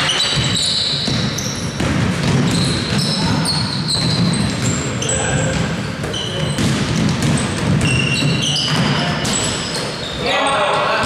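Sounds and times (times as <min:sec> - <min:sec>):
basketball bouncing: 0:00.0 - 0:10.1
gym noise: 0:00.0 - 0:11.0
sneakers squeaking on court: 0:00.0 - 0:11.0.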